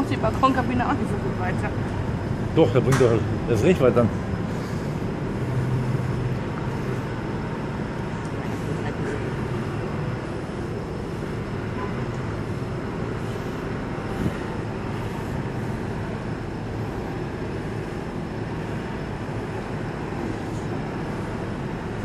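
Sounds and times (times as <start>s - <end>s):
faint high whine: 0.0s - 22.0s
ship engine low rumble: 0.0s - 22.0s.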